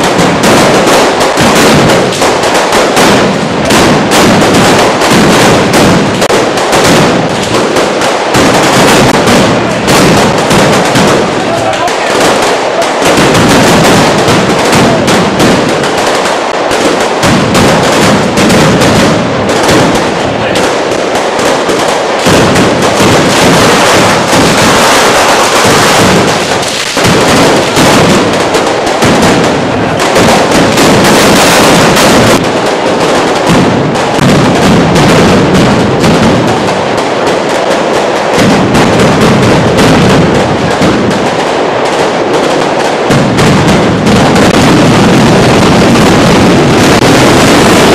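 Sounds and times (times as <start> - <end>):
firecrackers banging rapidly: 0.0 - 47.9.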